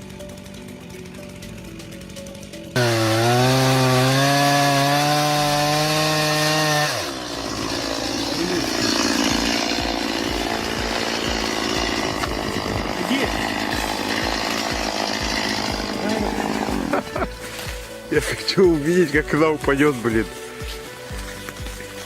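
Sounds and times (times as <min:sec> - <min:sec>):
chainsaw revving: 0:00.0 - 0:19.3
chainsaw cutting wood: 0:00.0 - 0:22.0.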